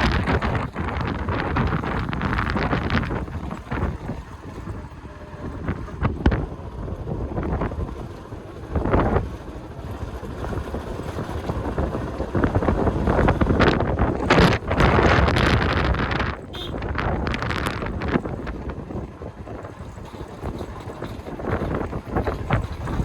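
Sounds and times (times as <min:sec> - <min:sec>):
gusty wind buffeting microphone: 0:00.0 - 0:23.0.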